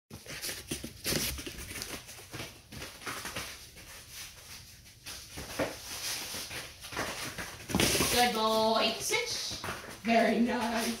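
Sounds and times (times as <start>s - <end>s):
footsteps on floor mats: 0.1s - 11.0s
puppy paws tapping on mats: 0.1s - 11.0s.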